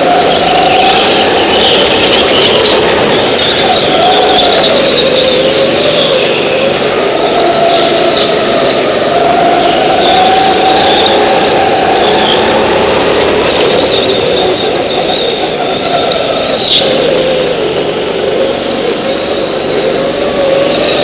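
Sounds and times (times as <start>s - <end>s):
go-kart engine running: 0.0s - 21.0s.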